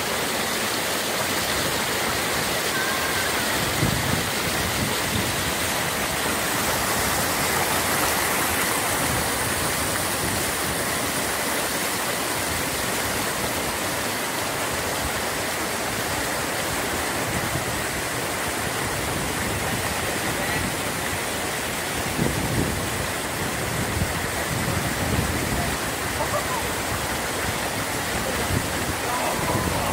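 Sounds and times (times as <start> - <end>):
stream rushing over boulders: 0.0 - 29.9.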